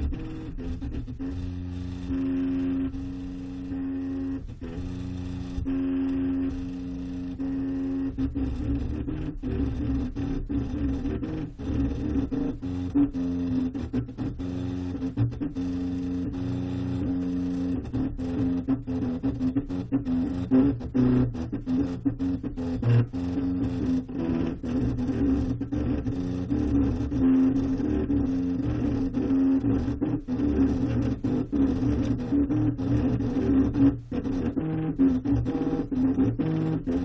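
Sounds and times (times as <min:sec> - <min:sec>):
printer stepper motors whining: 0:00.0 - 0:37.0.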